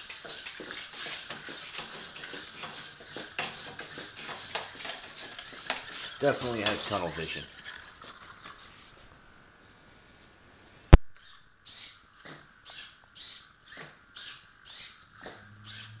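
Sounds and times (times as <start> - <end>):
servo motors whirring: 0.0 - 9.0, 9.7 - 16.0.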